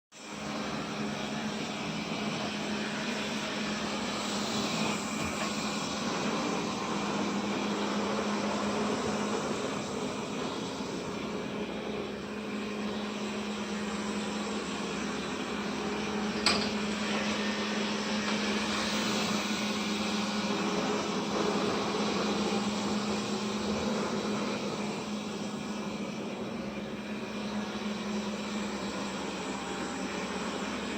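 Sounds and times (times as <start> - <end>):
vacuum cleaner running: 0.1 - 30.9.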